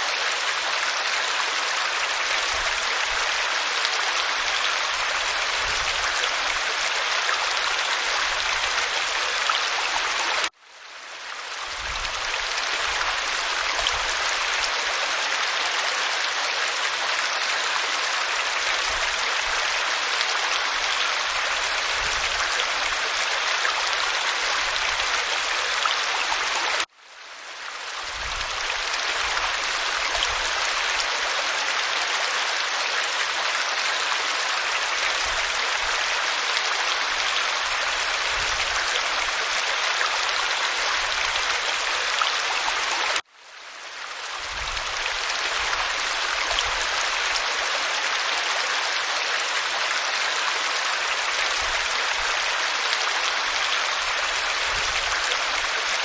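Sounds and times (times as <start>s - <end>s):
waterfall pouring over rock: 0.0s - 10.6s, 11.2s - 26.9s, 27.7s - 43.3s, 43.9s - 56.0s.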